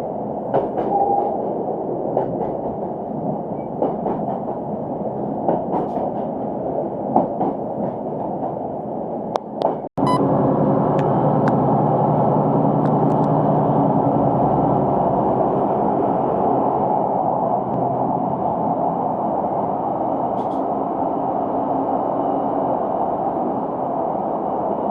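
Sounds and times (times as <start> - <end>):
train rumbling inside carriage: 0.0 - 24.9.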